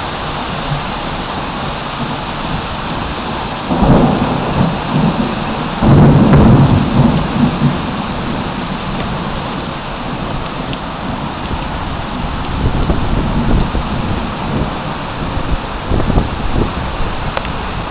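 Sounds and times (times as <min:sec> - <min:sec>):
heavy rain pouring: 0:00.0 - 0:17.9
thunder rumbling: 0:00.0 - 0:17.9.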